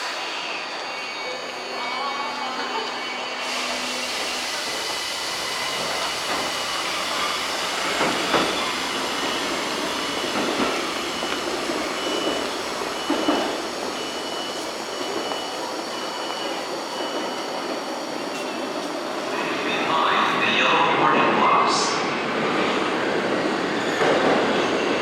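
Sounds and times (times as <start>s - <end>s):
subway train wheels hissing: 0.0s - 25.0s.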